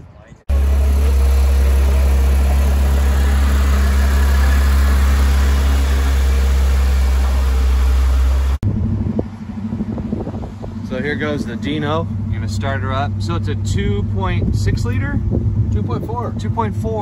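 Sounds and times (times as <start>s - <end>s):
car engine idling: 0.5s - 17.0s.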